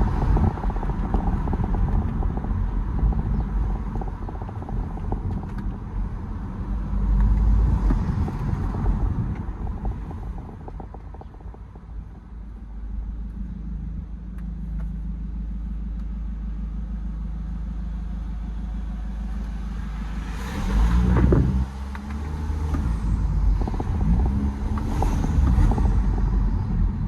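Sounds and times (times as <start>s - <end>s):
diesel car engine accelerating: 0.0s - 27.0s.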